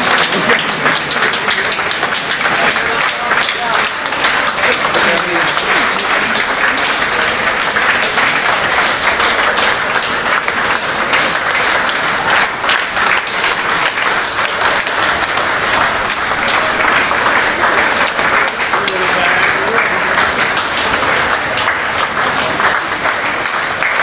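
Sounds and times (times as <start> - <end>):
people applauding: 0.0 - 24.0.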